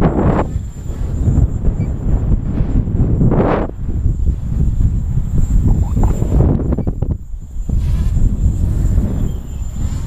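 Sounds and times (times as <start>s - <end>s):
wind buffeting a microphone: 0.0s - 10.0s.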